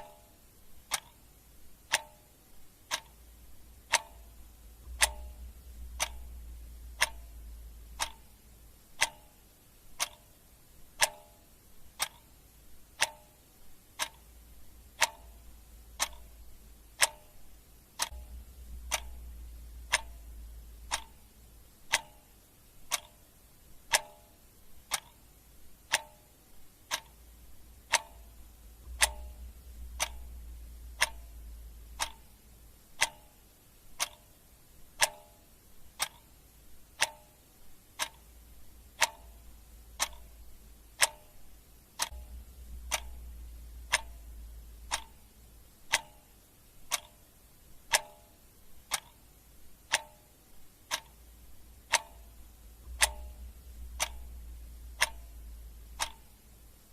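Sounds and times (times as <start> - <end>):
clock ticking: 0.0 - 56.9.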